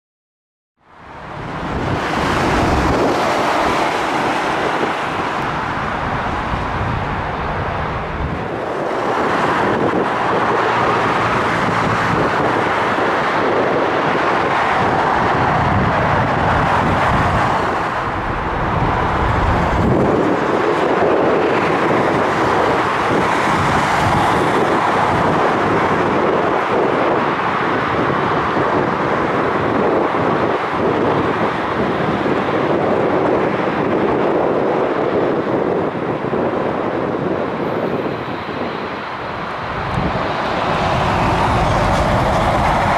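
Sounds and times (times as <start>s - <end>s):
wind buffeting microphone: 0.9s - 42.9s
distant jet aircraft: 1.1s - 42.9s.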